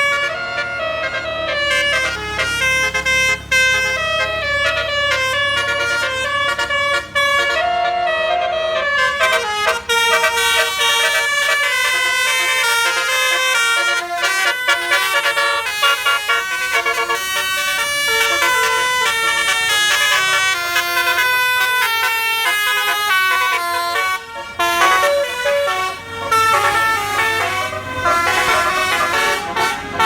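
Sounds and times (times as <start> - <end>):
bus engine rumble: 0.0 - 30.0
tuned air horns playing melody: 0.0 - 30.0.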